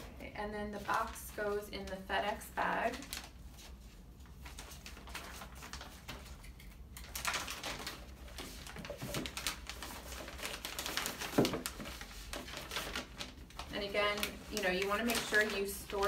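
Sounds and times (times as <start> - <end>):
plastic bag crinkling: 2.6 - 16.0.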